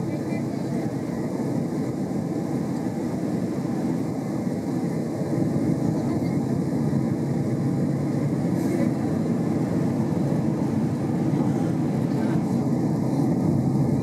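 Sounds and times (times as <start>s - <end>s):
airplane cabin engine roar: 0.0s - 14.0s.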